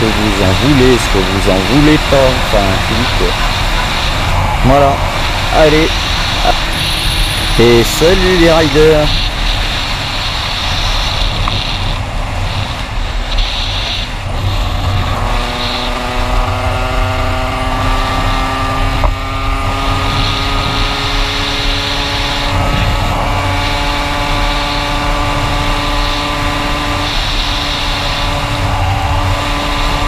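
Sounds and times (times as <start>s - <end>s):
two-stroke motorcycle engine running: 0.0s - 30.0s
wind noise on microphone: 0.0s - 30.0s.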